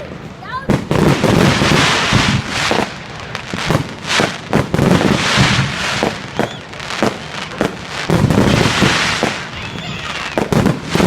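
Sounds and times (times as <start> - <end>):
fireworks bangs: 0.0 - 11.0
fireworks hiss and crackle: 0.0 - 11.0.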